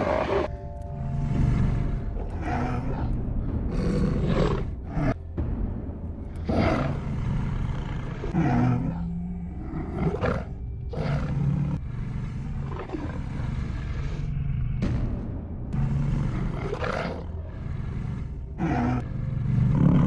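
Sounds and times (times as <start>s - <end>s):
wolves growling: 0.0s - 5.4s, 6.2s - 20.0s
low film score drone: 0.0s - 20.0s.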